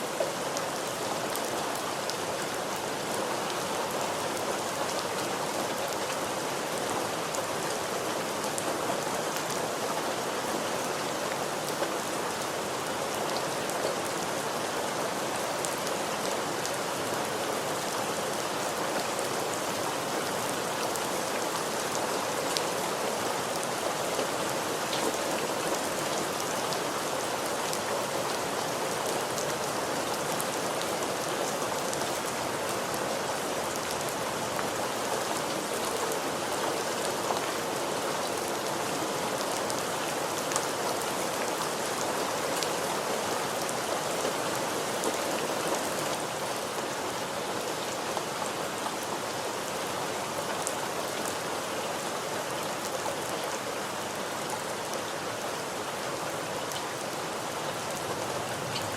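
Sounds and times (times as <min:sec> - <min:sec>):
rain hissing on a surface: 0:00.0 - 0:58.9.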